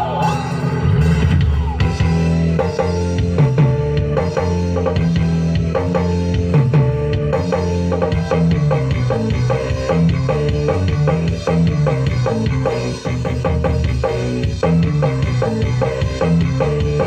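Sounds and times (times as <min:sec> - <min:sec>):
music with drums and plucked strings: 0:00.0 - 0:17.0.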